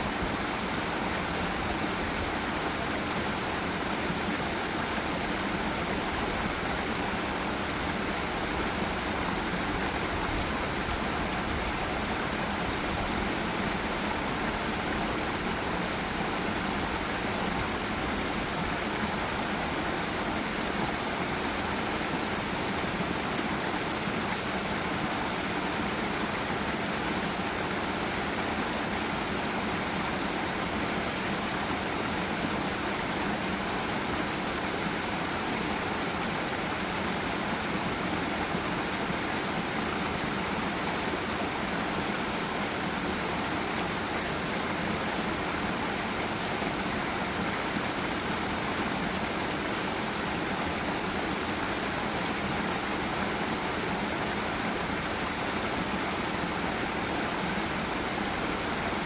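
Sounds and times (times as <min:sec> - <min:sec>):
stream and small waterfall: 0:00.0 - 0:59.0.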